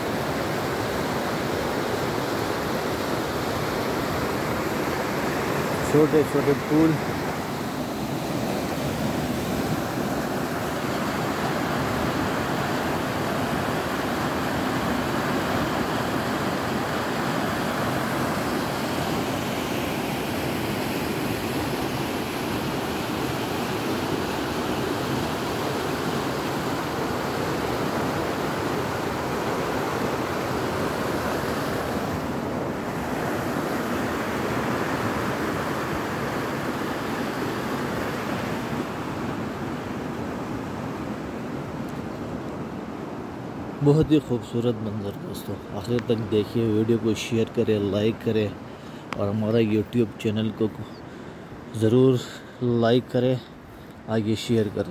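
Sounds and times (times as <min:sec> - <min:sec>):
river rushing over rocks: 0:00.0 - 0:50.3.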